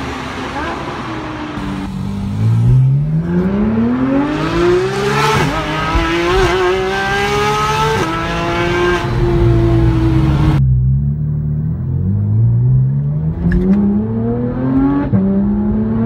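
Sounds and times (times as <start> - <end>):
sports car engine accelerating: 0.5 - 16.0.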